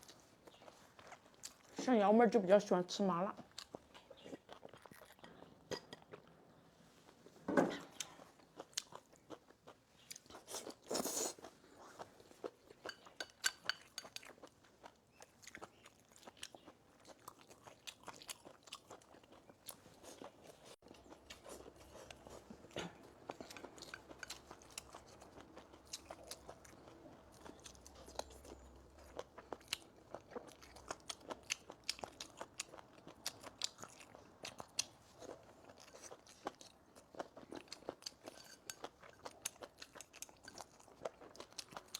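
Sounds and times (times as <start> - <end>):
person chewing crunchy food: 0.0 - 1.7, 3.4 - 6.4, 7.8 - 41.9.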